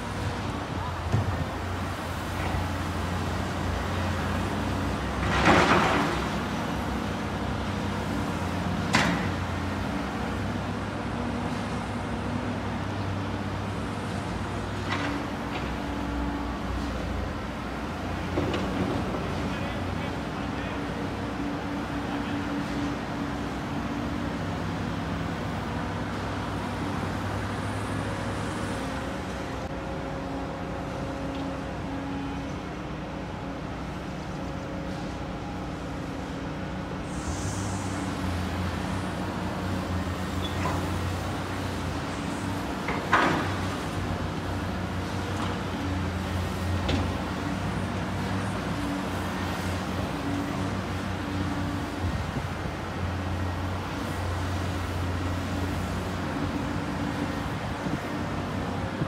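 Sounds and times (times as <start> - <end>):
excavator diesel engines humming: 0.0 - 59.0.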